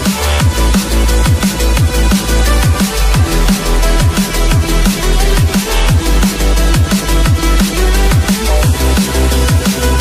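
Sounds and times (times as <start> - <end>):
drum and bass music: 0.0 - 10.0.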